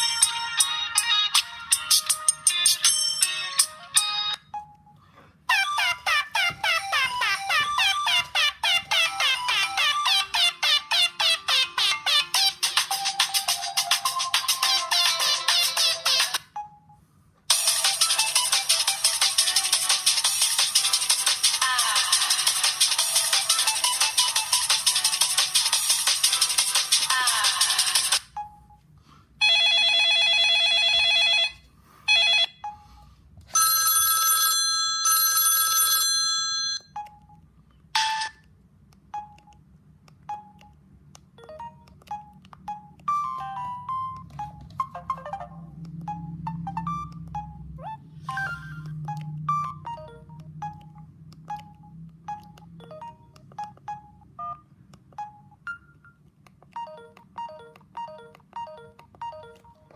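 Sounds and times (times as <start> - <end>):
phone ringtone buzzy tones: 0.0 - 38.4, 39.1 - 56.2, 56.8 - 59.9
ringtone melody of high beeps: 0.0 - 38.4, 39.0 - 59.9.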